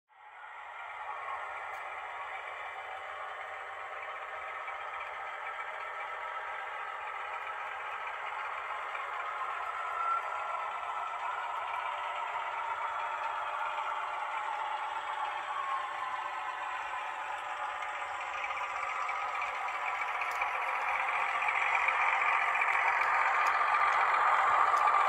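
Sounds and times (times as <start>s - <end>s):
model train rattling whir: 0.3s - 25.0s.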